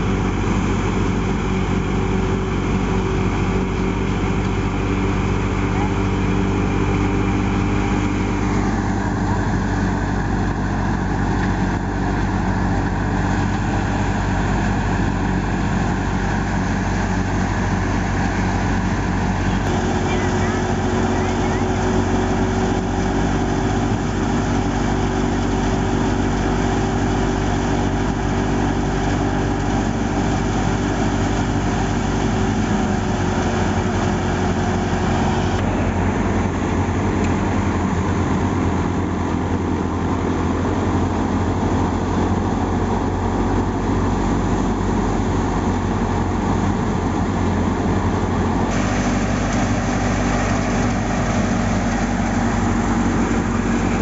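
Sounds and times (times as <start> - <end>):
tractor-driven thresher running: 0.0 - 54.0.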